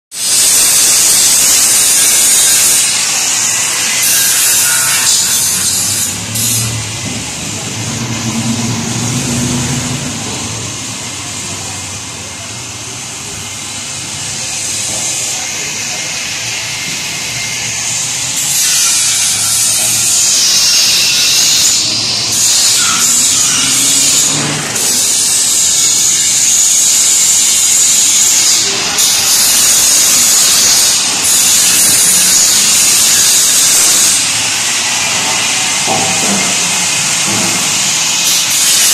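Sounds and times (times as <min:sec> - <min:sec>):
high-pitched pressurized hiss: 0:00.1 - 0:07.0, 0:11.6 - 0:38.9.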